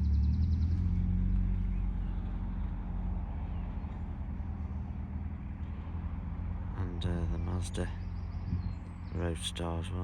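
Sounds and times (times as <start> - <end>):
car engine low rumble: 0.0 - 10.0.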